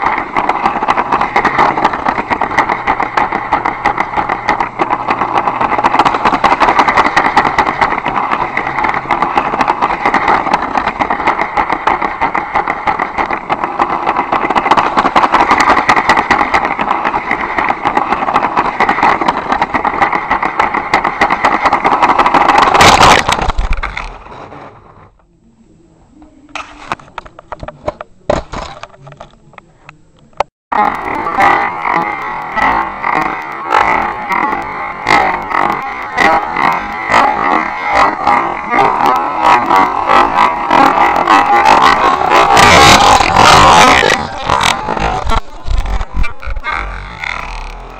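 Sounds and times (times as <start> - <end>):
toy train rattling whir: 0.0 - 24.7, 30.8 - 47.9
toy train crash smash: 0.0 - 24.8, 28.3 - 29.0, 30.8 - 47.7
plastic clacks: 0.0 - 25.3, 26.5 - 47.9.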